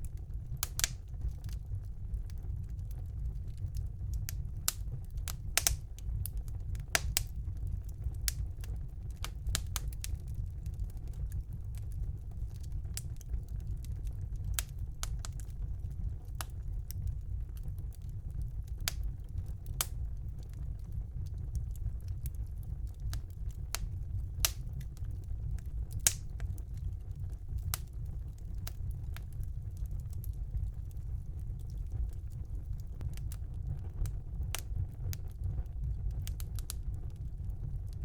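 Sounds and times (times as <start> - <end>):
fire crackling with pops and snaps: 0.0 - 38.0
low rumble of flames: 0.0 - 38.0.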